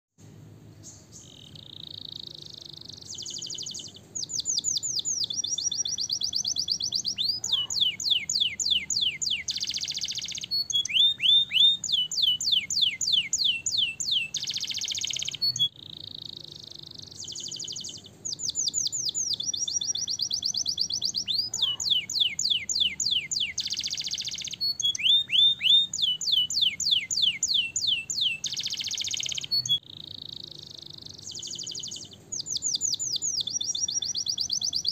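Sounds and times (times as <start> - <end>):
canary singing trills: 0.8 - 34.9.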